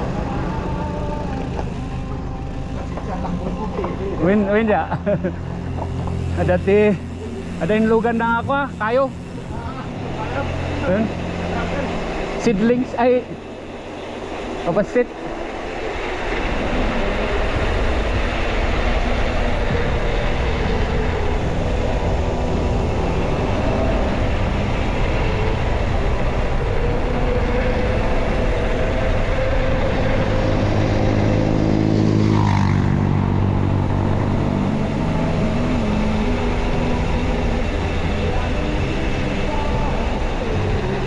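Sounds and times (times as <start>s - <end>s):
vehicle engines on road: 0.0s - 41.0s
vehicle passing close by: 0.0s - 41.0s
wind rush: 4.2s - 41.0s.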